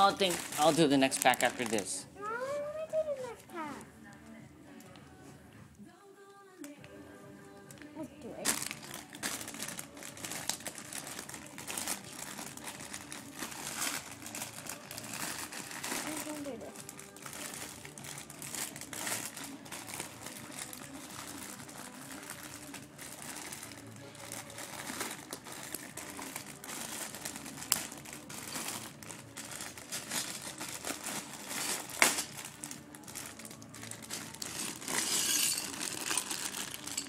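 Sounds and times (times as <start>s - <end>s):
plastic bag crinkling: 0.0s - 2.0s, 8.4s - 37.0s.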